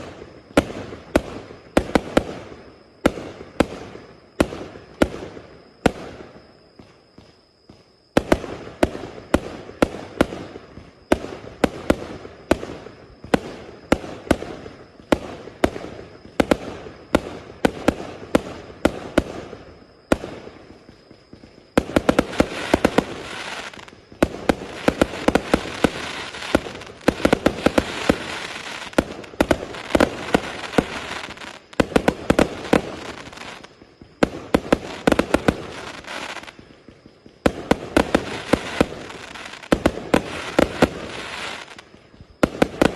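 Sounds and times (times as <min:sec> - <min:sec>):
fireworks firing with crackle: 0:00.0 - 0:42.9.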